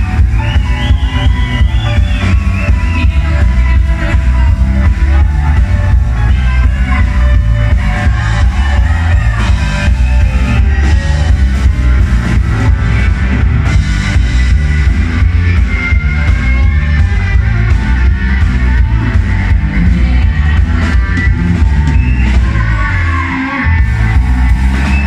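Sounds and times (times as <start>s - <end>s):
drum kit: 0.0s - 25.0s
electric guitar: 0.0s - 25.0s
heavy bass: 0.0s - 25.0s.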